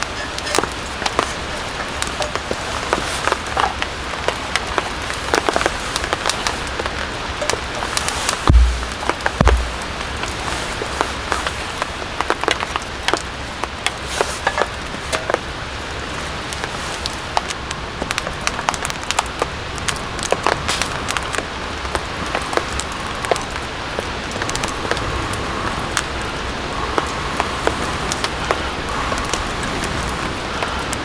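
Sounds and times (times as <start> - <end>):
rain on tent fabric: 0.0 - 31.0.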